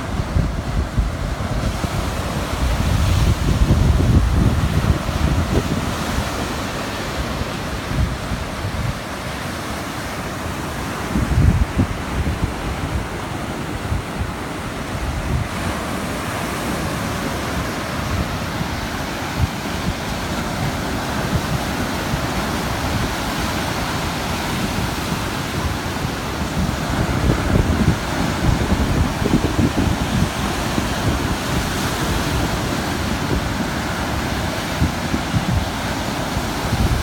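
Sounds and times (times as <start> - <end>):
surf washing onto beach: 0.0 - 37.0
wind buffeting microphone: 0.0 - 37.0.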